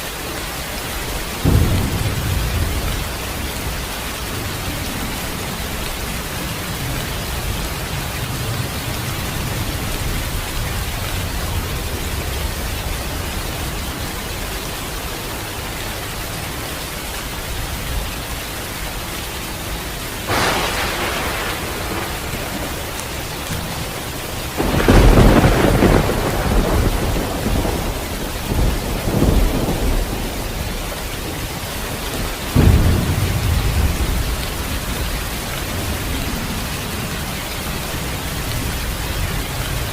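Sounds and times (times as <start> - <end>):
steady rain: 0.0 - 39.9
thunder cracking and rumbling: 1.1 - 15.0, 20.2 - 39.9.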